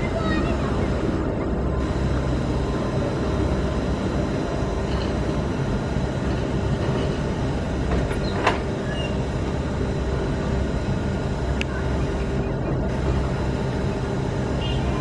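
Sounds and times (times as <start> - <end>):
train rumbling on tracks: 0.0 - 15.0.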